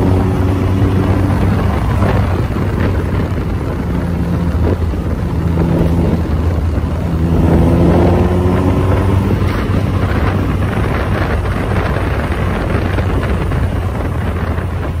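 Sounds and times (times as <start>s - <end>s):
car engine droning: 0.0s - 15.0s
wind rushing over microphone: 0.0s - 15.0s.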